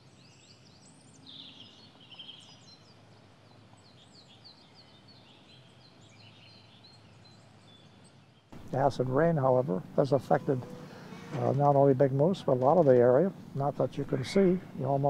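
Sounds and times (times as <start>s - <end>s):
birds chirping: 0.0s - 15.0s
faint outdoor hiss: 0.0s - 15.0s.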